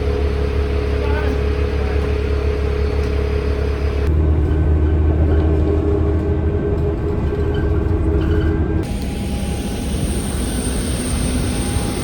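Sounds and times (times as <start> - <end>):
vehicle rumble and drone: 0.0 - 12.0.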